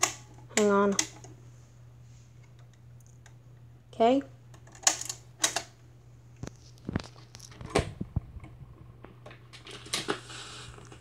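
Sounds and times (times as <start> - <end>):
record player motor hum: 0.0 - 11.0.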